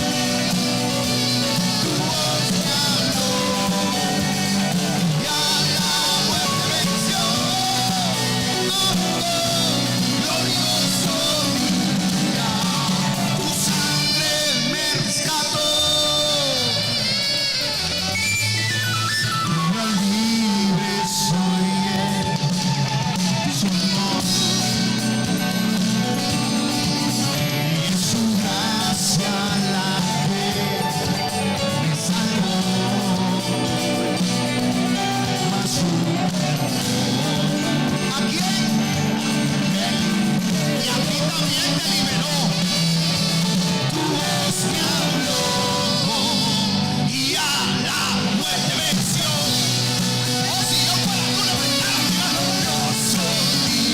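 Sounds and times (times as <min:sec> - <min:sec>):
person singing: 0:00.0 - 0:18.3, 0:19.2 - 0:53.9
bass line: 0:00.0 - 0:53.9
guitar: 0:00.0 - 0:53.9
rock band playing: 0:00.0 - 0:53.9.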